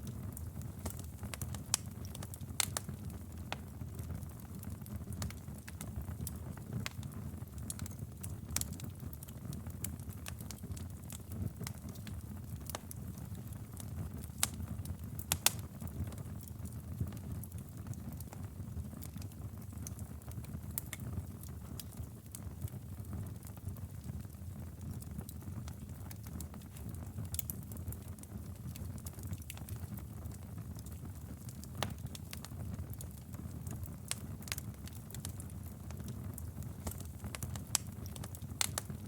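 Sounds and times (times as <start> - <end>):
campfire flame rumble: 0.0 - 39.0
fire crackling and popping: 0.0 - 39.0.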